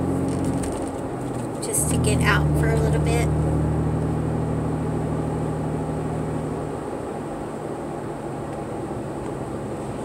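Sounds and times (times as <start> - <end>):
car engine hum: 0.0 - 10.0
tyre road noise: 0.0 - 10.0.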